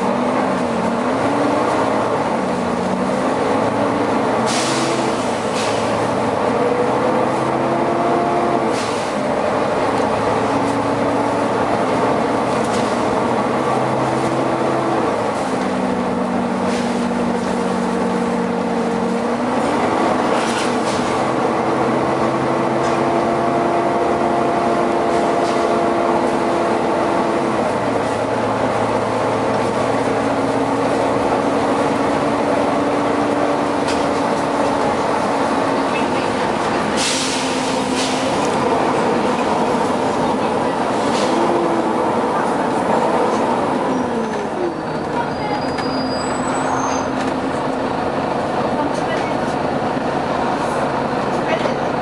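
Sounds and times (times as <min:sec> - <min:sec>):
bus engine drone: 0:00.0 - 0:52.0.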